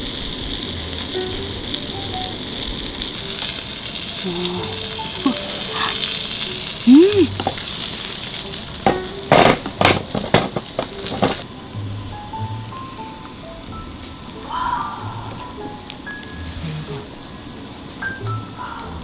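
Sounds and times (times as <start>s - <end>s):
dough sizzling in a hot pan: 0.0s - 19.0s.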